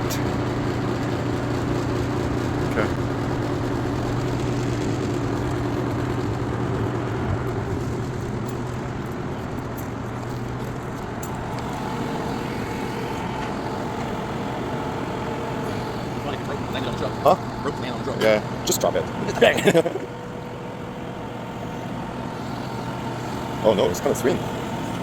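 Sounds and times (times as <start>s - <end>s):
truck engine humming: 0.0s - 25.0s.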